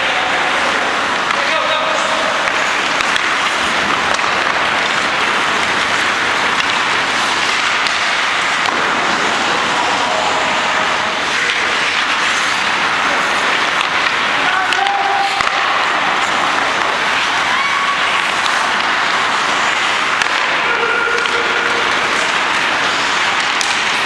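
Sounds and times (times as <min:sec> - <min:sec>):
ice rink ambience hiss: 0:00.0 - 0:24.0.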